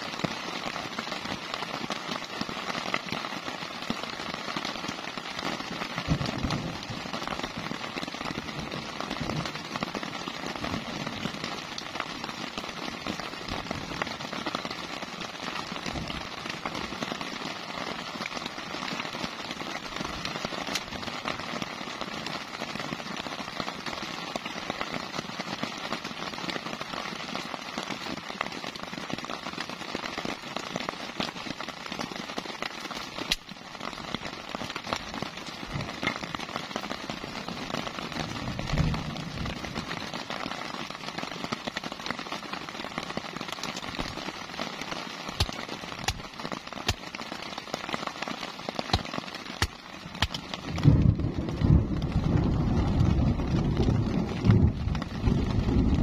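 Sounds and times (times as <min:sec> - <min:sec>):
heavy rain patter: 0:00.0 - 0:56.0.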